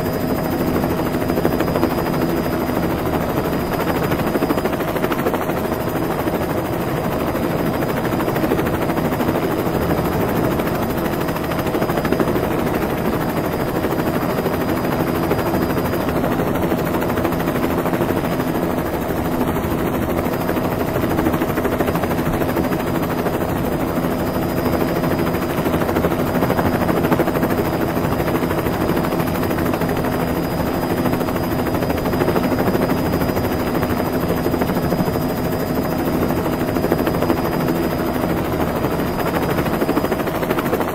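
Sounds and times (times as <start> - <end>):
helicopter rotors whirring: 0.0 - 40.9.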